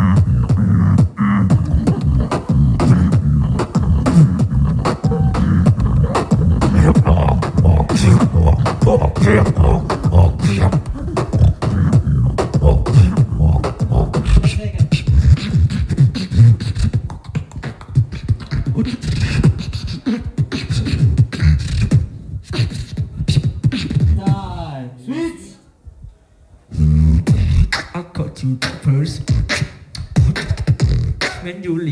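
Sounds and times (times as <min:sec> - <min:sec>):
beatboxing into a microphone: 0:00.0 - 0:24.7, 0:26.7 - 0:31.9.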